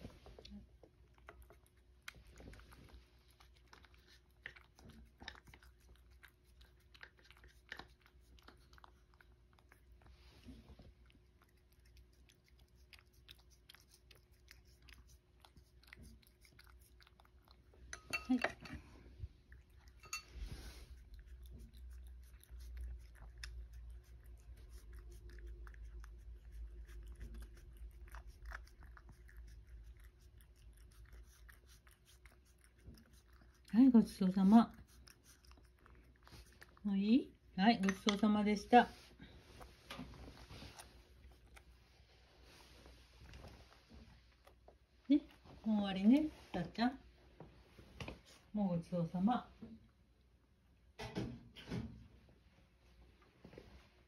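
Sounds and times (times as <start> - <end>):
cat licking and chewing: 0.0 - 48.5
low steady hum: 0.0 - 54.0.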